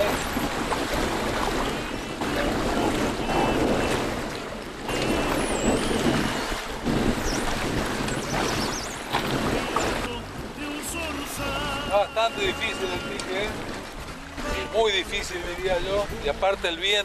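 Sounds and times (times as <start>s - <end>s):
wind buffeting microphone: 0.0s - 16.7s
choppy river water: 0.0s - 17.0s.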